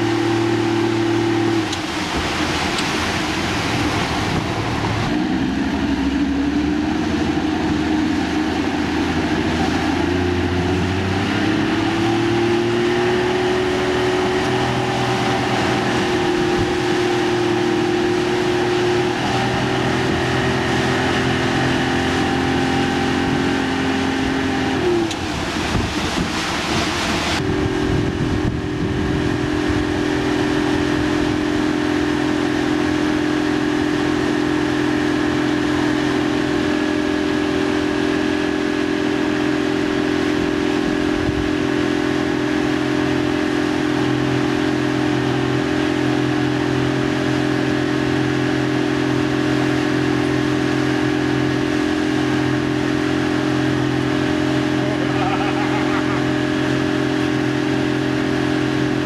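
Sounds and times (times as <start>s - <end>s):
motorboat engine running: 0.0s - 59.0s
rushing water: 0.0s - 59.0s
wind: 0.0s - 59.0s.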